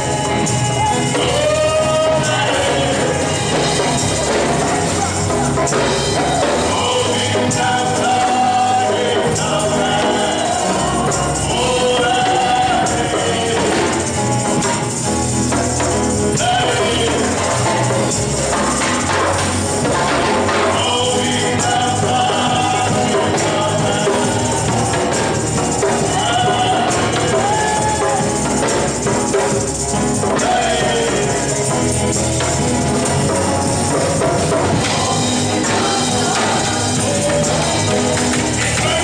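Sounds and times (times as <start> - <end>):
tambourine shaking: 0.0 - 39.0
voices singing gospel: 0.0 - 39.0.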